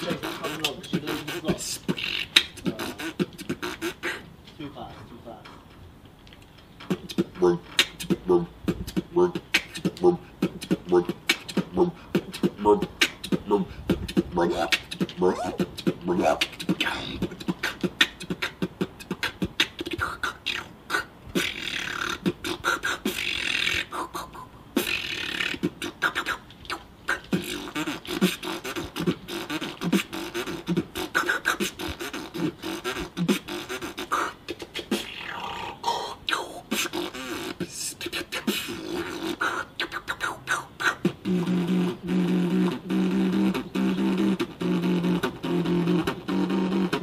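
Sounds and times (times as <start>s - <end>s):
man beatboxing: 0.0s - 4.3s, 6.8s - 47.0s.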